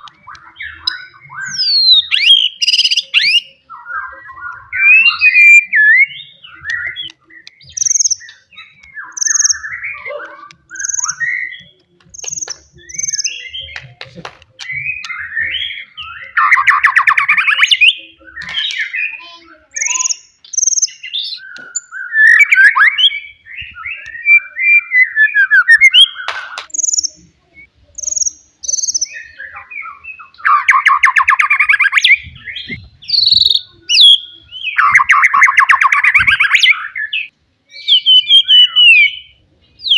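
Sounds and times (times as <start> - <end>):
bird singing whistled song: 0.0 - 13.8, 14.6 - 39.9.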